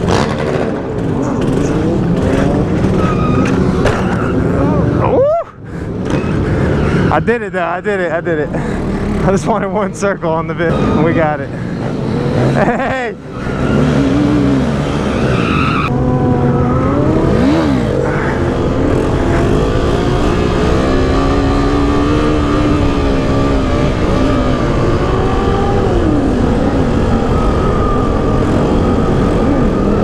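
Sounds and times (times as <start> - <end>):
motorcycle engine revving: 0.0 - 5.1, 8.2 - 30.0.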